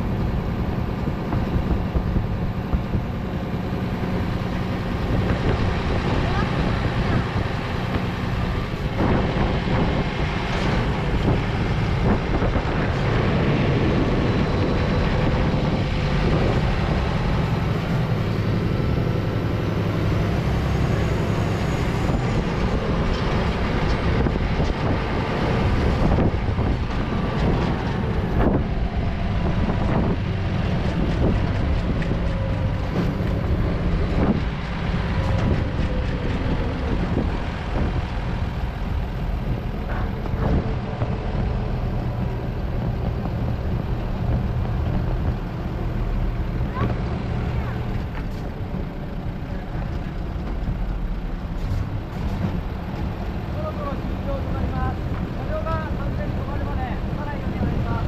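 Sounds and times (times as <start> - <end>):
diesel truck engine rumble: 0.0 - 58.0.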